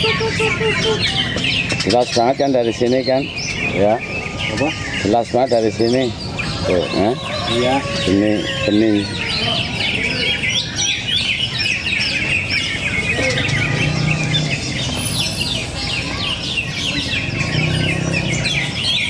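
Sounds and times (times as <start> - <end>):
many birds chirping: 0.0 - 19.0.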